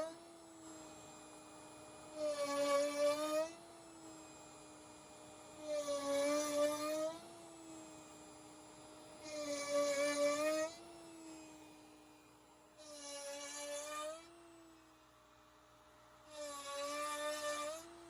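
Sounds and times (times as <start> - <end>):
router bit cutting wood: 0.0 - 15.0, 16.0 - 18.0
router spindle whining: 0.0 - 18.0.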